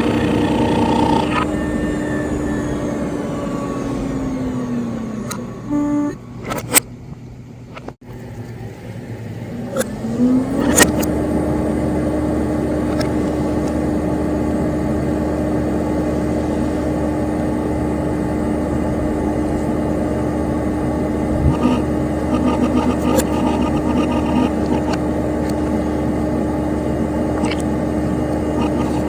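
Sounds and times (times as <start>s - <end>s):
computer fan and hard drive whirring: 0.0s - 29.0s.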